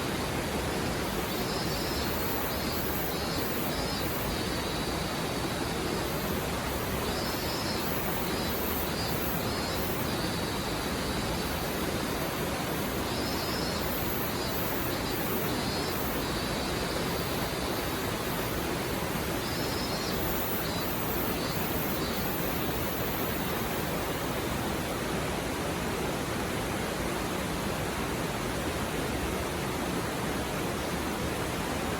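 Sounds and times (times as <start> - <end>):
river stream babbling: 0.0 - 25.8.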